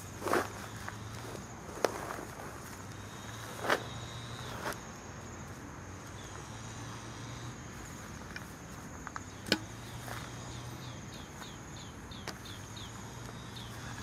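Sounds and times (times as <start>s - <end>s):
insect chorus trilling: 0.0s - 14.0s.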